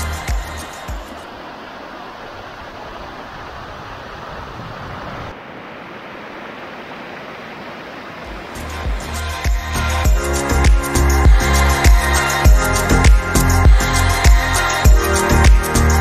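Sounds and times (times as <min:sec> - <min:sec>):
stream water rushing over rocks: 0:00.0 - 0:15.9.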